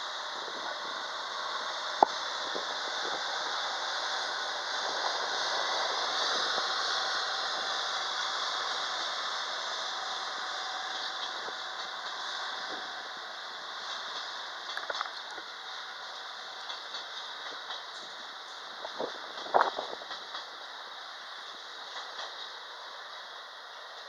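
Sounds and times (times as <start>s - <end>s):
train rattling along rails: 0.0s - 24.0s.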